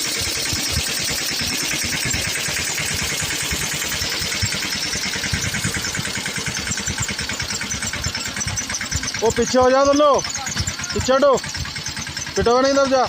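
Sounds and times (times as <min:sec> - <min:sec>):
tractor diesel engine chugging: 0:00.0 - 0:13.0.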